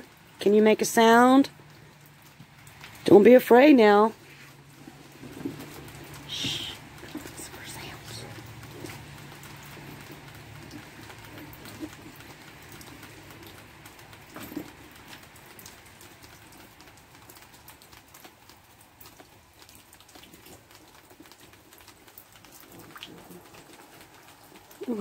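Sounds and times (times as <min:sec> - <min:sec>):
water dripping: 0:00.0 - 0:25.0.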